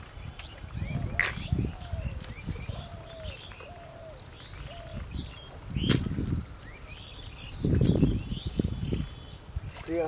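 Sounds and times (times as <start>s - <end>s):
lower falling bird call: 0.2s - 9.4s.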